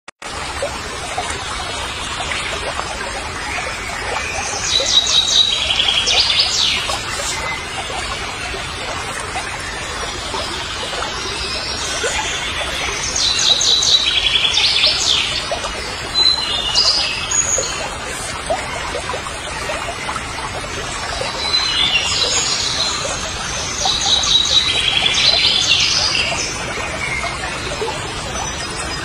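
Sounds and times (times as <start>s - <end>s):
birds chirping and trilling: 0.6s - 29.0s.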